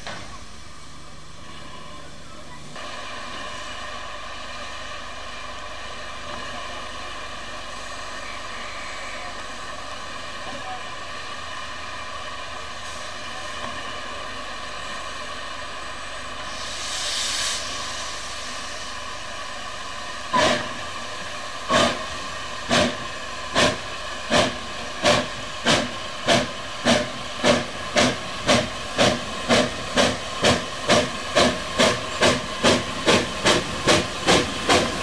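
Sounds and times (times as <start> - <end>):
locomotive steam hissing: 0.0 - 35.0
steam locomotive exhaust chuffs: 2.8 - 35.0.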